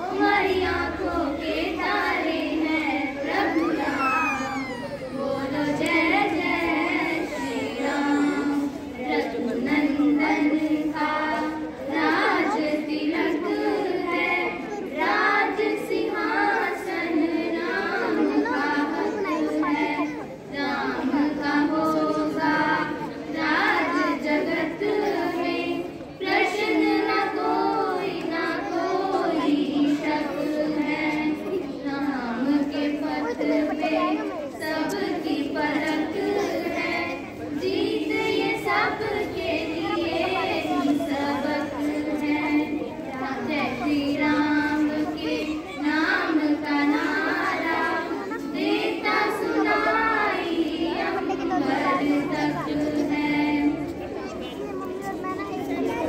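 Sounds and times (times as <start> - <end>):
girls singing devotional song: 0.0 - 56.0.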